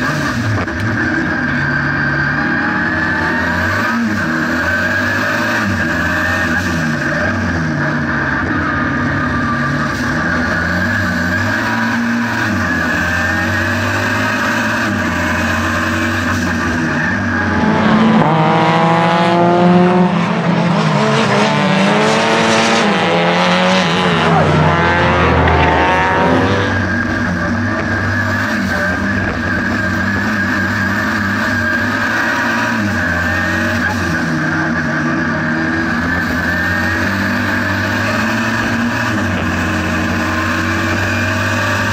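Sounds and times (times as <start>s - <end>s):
car engine drone in cabin: 0.0s - 41.9s
engine revving up: 0.0s - 41.9s.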